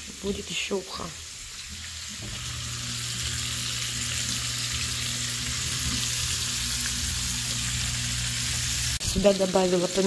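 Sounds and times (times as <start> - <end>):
fish sizzling in a frying pan: 0.0 - 10.0.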